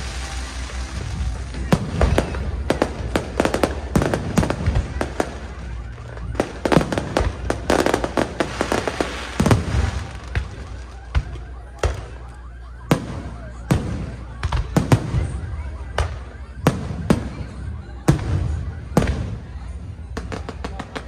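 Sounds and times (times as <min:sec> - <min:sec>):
fireworks bangs: 0:00.0 - 0:21.0
fireworks crackling: 0:00.0 - 0:21.0.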